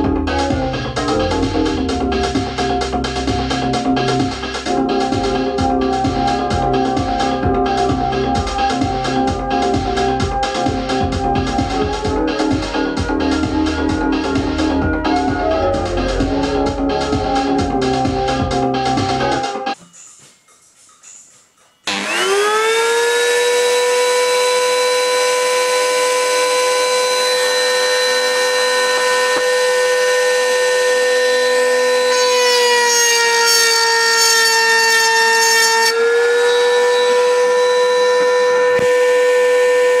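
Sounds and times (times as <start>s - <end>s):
wood router motor whine: 0.0s - 19.7s, 21.8s - 40.0s
router bit cutting wood: 0.9s - 19.6s, 21.9s - 40.0s.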